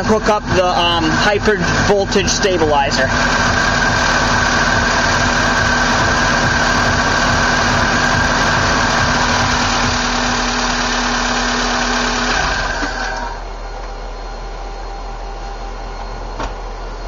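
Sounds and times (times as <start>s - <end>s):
car engine idling: 0.0s - 17.0s
steady hum: 0.0s - 17.0s.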